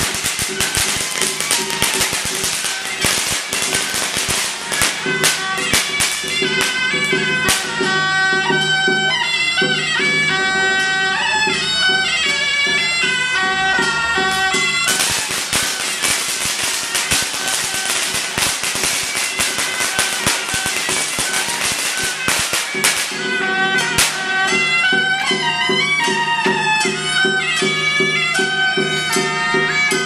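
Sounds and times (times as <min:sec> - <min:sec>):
shawm playing shrill melody: 0:00.0 - 0:30.0.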